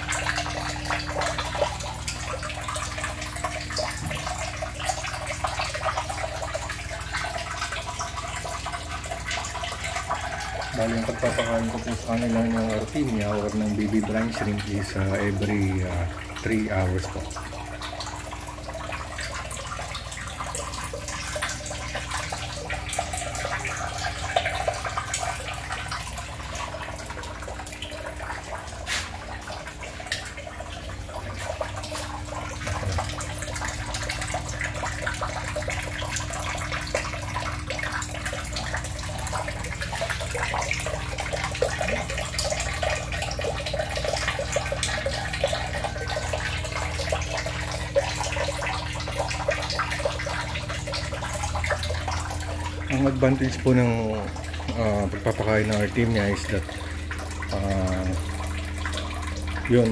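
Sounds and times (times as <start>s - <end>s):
small crackles and drips: 0.0s - 59.9s
water running and splashing: 0.0s - 59.9s.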